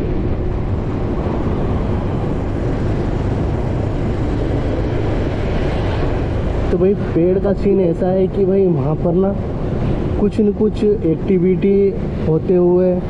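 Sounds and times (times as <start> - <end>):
road noise: 0.0 - 13.0
wind rumble: 0.0 - 13.0.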